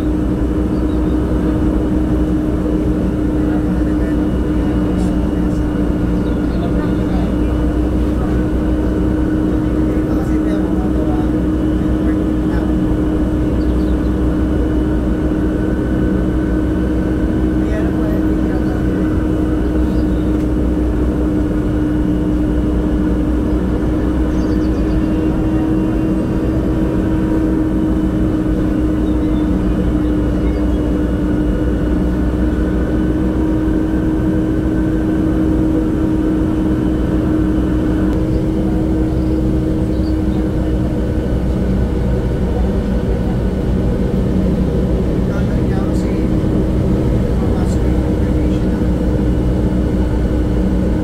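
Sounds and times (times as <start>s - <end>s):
train rumble inside carriage: 0.0s - 51.0s.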